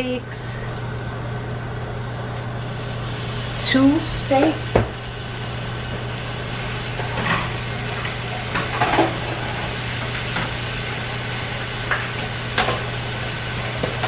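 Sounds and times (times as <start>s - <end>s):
steaks sizzling in butter: 2.4s - 14.0s.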